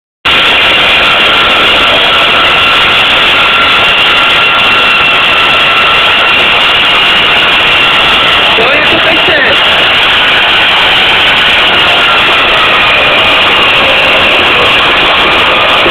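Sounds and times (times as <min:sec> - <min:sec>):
winch and hydraulics whining: 0:00.3 - 0:15.9.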